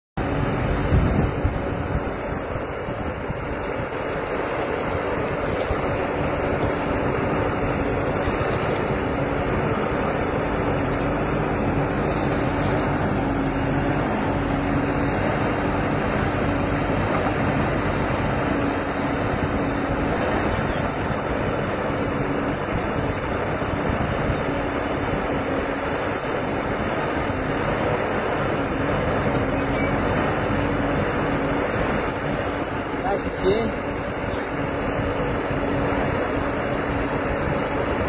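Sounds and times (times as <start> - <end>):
backhoe diesel engine running: 0.2 - 38.0.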